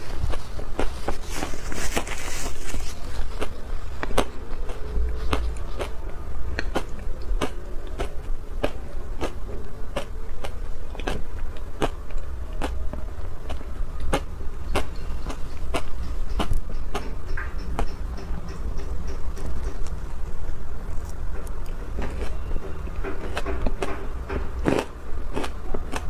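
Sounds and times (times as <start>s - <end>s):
chewing crunchy ice: 0.0s - 18.0s, 20.9s - 26.0s.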